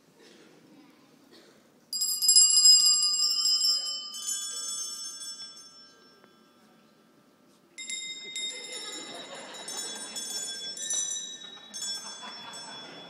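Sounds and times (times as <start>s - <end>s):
bell ringing with clear tones: 1.9s - 13.0s.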